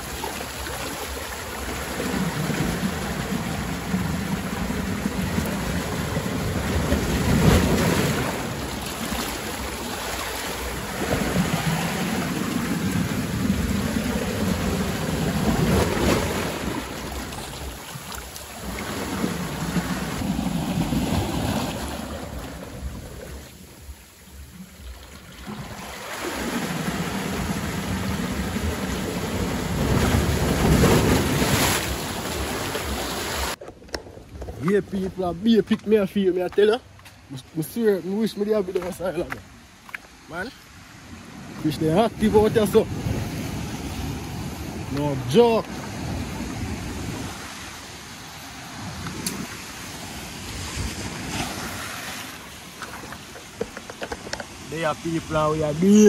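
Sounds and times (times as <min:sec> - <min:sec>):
sea water washing: 0:00.0 - 0:56.0.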